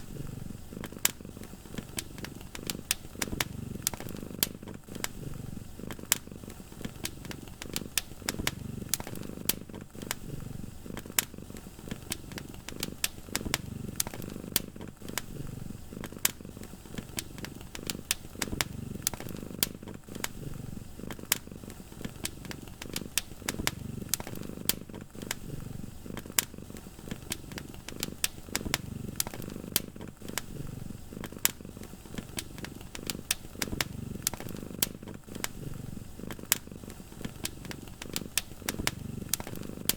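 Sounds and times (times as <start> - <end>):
cat purring: 0.0 - 39.9
wood fire crackling and popping: 0.0 - 39.9.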